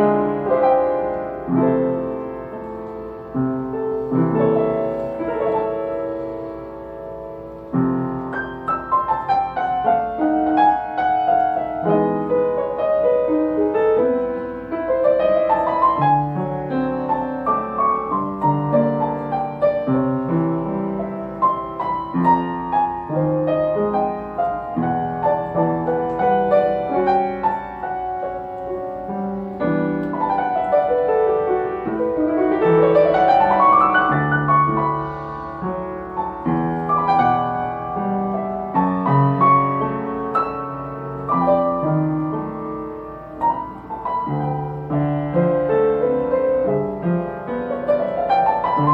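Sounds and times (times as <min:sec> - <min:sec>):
solo jazz piano: 0:00.0 - 0:48.9.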